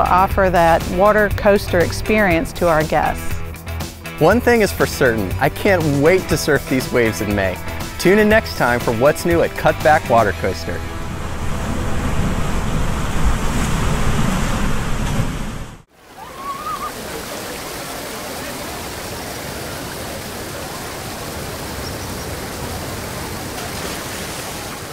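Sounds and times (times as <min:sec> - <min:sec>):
ocean waves breaking: 0:00.0 - 0:24.9
rush of water: 0:04.3 - 0:24.9.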